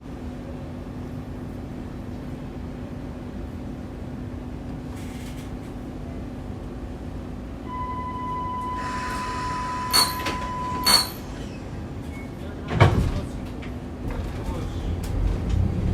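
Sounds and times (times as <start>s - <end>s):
tram cabin low hum: 0.0s - 15.9s.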